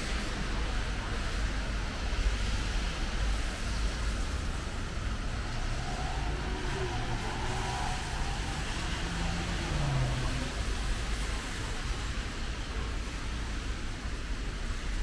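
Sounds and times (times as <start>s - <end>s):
road traffic on wet streets: 0.0s - 15.0s.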